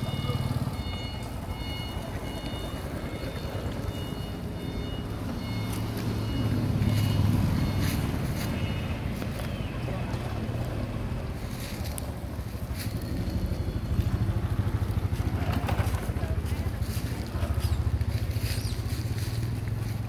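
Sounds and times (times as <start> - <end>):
passing vehicle engine rumble: 0.0 - 20.0.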